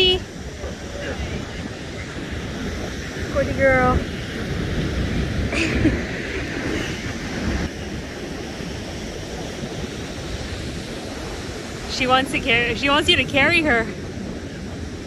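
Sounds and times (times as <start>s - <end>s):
ocean surf: 0.0s - 15.0s
wind noise on microphone: 0.0s - 15.0s.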